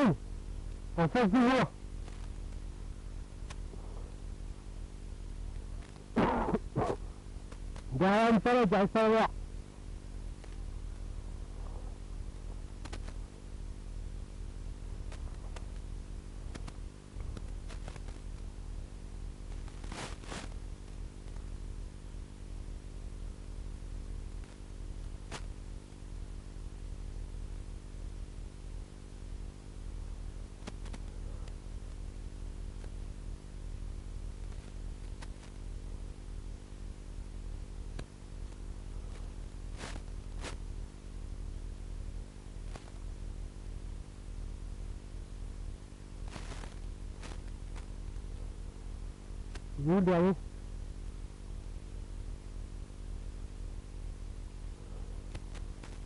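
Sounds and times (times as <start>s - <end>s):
electrical hum and hiss: 0.0s - 56.0s.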